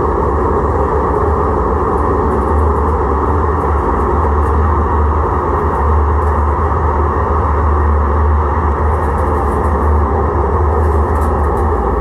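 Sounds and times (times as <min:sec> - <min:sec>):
light-rail car humming: 0:00.0 - 0:12.0.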